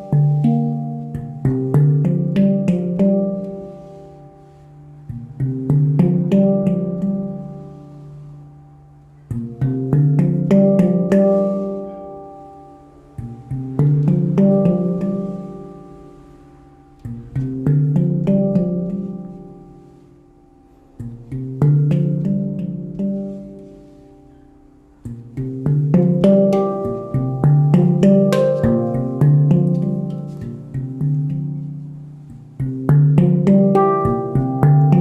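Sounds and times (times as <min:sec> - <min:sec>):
handpan low arpeggios: 0:00.0 - 0:35.0.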